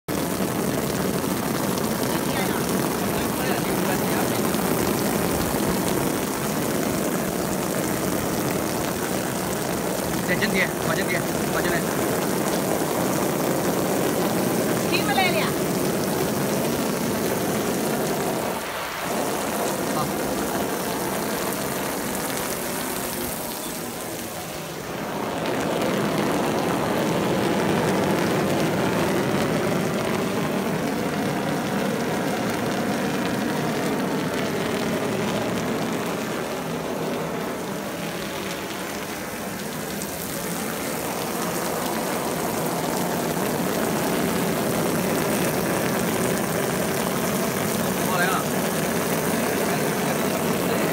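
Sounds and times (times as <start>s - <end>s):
water spattering on waterproof fabric: 0.0s - 50.9s.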